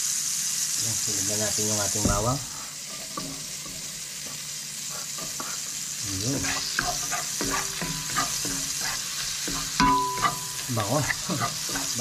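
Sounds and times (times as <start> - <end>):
garlic sizzling in a wok: 0.0 - 12.0
wooden spatula scraping a pan: 2.0 - 12.0.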